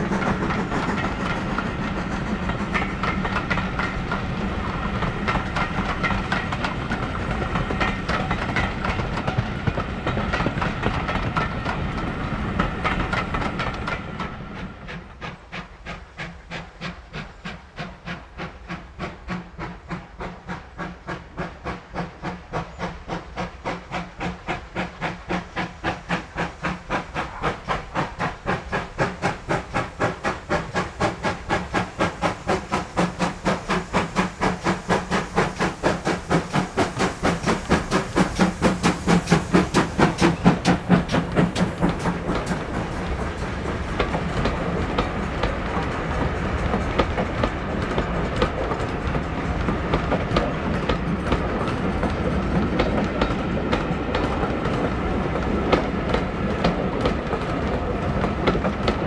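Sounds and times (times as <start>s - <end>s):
steam locomotive exhaust beats: 0.0s - 59.0s
train coaches rumbling: 0.0s - 59.0s
train wheel clicks: 0.0s - 59.0s.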